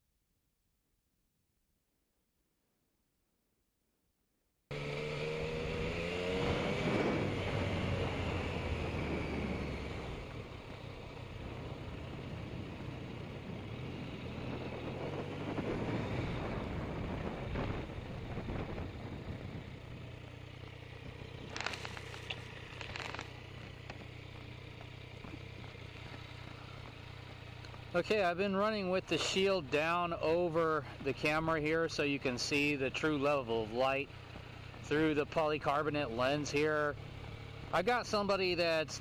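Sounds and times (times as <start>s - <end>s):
motorcycle engine idling: 4.7s - 39.0s.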